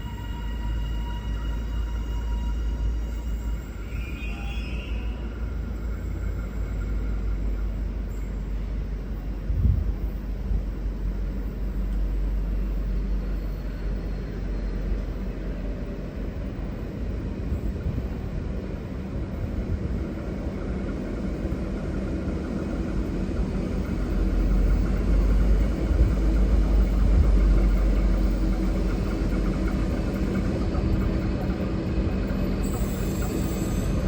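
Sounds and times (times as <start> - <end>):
diesel locomotive engine rumbling: 0.0 - 34.0.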